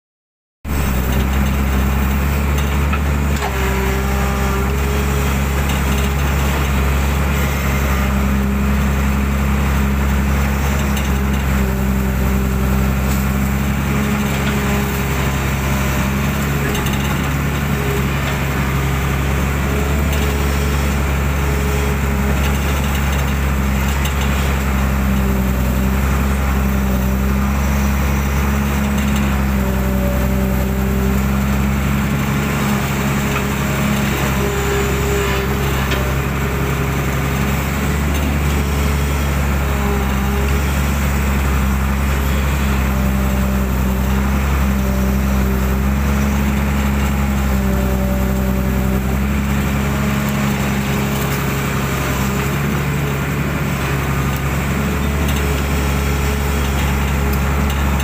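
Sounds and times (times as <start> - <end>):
diesel engine under load: 0.7 - 58.0
hydraulic whine: 0.7 - 58.0.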